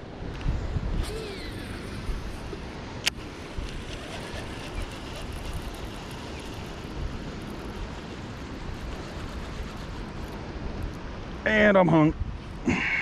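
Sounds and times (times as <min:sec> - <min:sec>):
wind rushing over microphone: 0:00.0 - 0:12.7.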